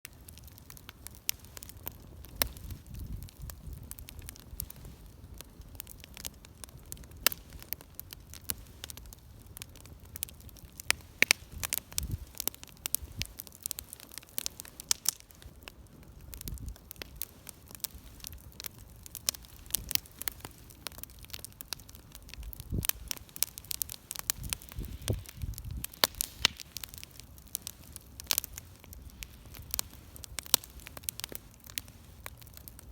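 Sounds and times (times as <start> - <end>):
low rumble of flame: 0.0 - 32.9
wood fire crackling and snapping: 0.0 - 32.9.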